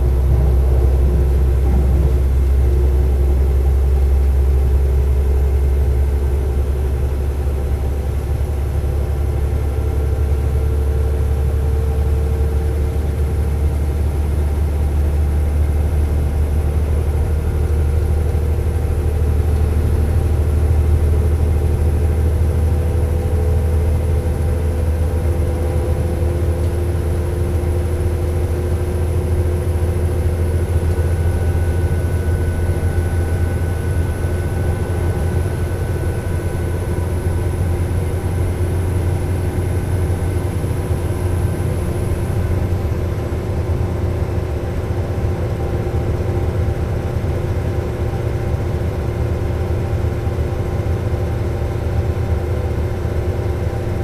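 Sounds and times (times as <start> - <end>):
diesel train engine drone: 0.0 - 54.0.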